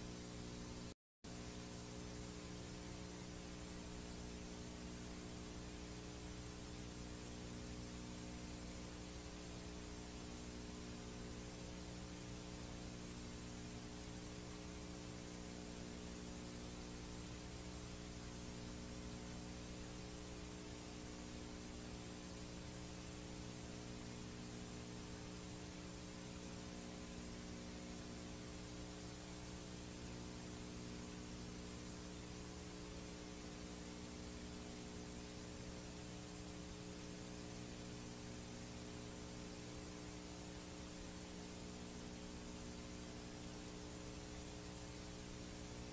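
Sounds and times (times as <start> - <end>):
low electrical hum: 0.0 - 45.9
tape hiss: 0.0 - 45.9.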